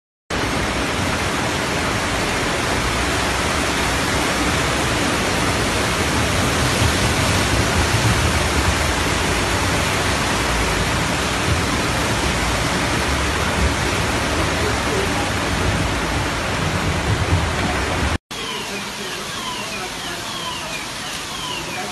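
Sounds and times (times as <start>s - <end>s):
floodwater rushing across street: 0.3s - 21.9s
water gushing from storm drain: 0.3s - 21.9s.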